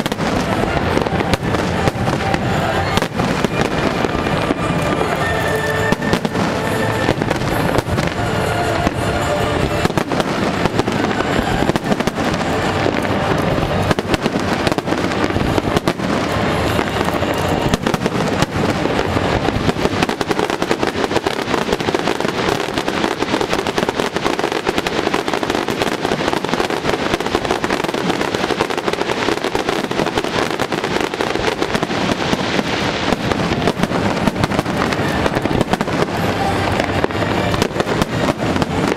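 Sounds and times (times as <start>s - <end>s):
fireworks bursting and crackling: 0.0s - 38.9s
music playing: 0.0s - 38.9s.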